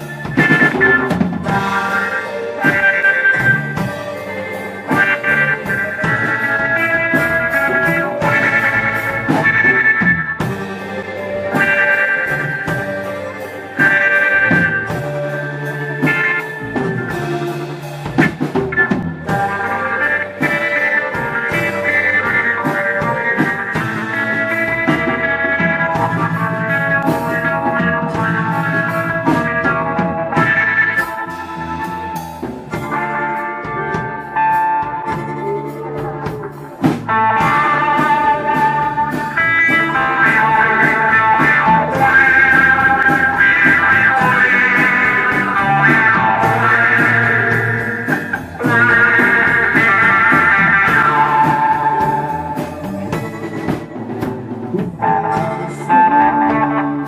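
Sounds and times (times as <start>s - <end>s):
combo organ: 0.0s - 57.0s
rock band playing: 0.0s - 57.0s.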